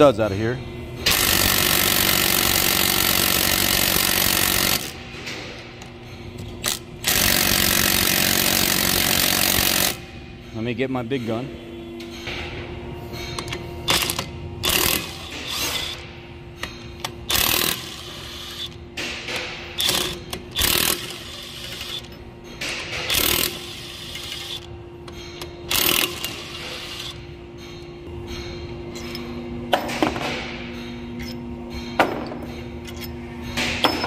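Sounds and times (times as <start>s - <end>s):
impact wrench hammering: 1.0s - 10.2s, 12.1s - 34.0s.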